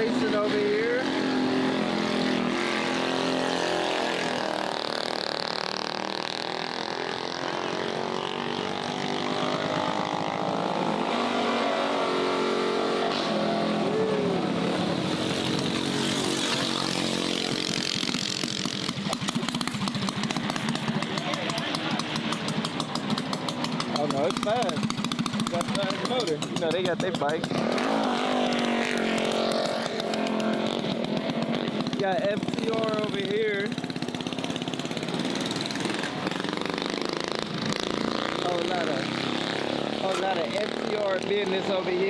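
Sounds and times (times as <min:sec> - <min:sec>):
mini bike engines revving: 0:00.0 - 0:42.0.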